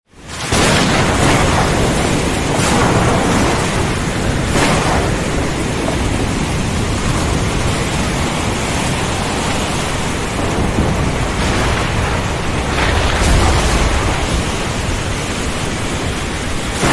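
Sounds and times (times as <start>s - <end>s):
heavy rain: 0.0s - 16.9s
wind: 0.0s - 16.9s
thunder rumbling: 0.3s - 16.9s.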